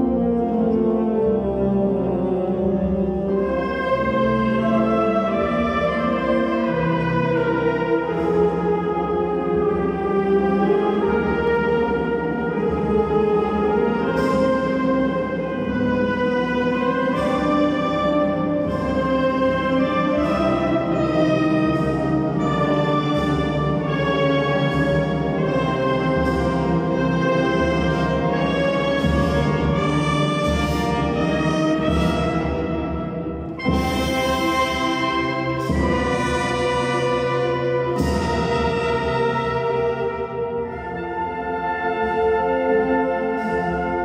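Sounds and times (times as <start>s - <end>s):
wind band playing funeral march: 0.0s - 44.0s.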